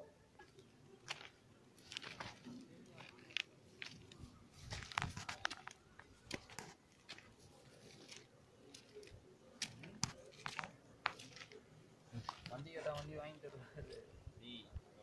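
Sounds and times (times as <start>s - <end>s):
rustling near microphone: 1.1s - 13.2s.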